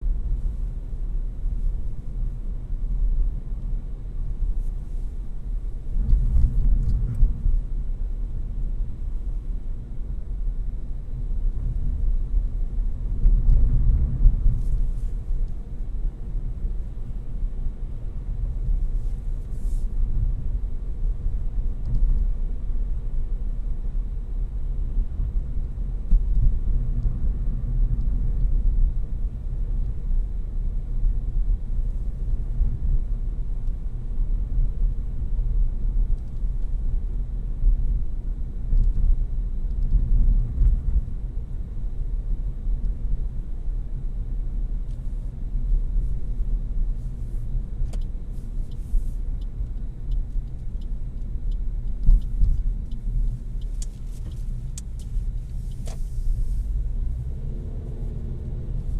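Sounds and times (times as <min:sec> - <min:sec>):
car engine rumble: 0:00.0 - 0:58.9
road noise: 0:00.0 - 0:58.9.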